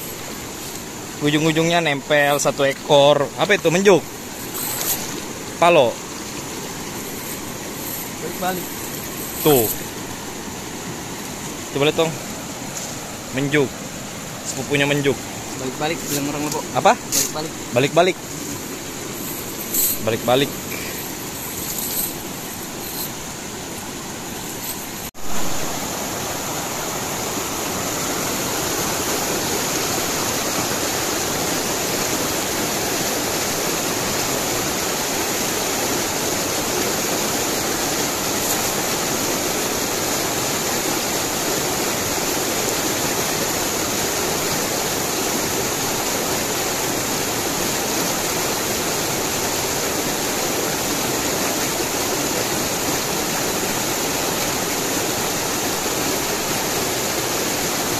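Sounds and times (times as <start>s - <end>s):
river rapids rushing: 0.0s - 57.9s.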